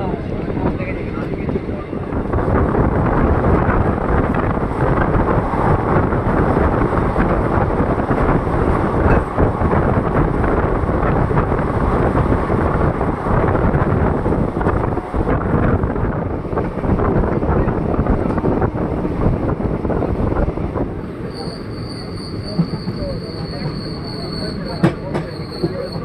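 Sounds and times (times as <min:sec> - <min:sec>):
wind buffeting microphone: 0:00.0 - 0:21.5
moving train running noise: 0:00.0 - 0:26.0.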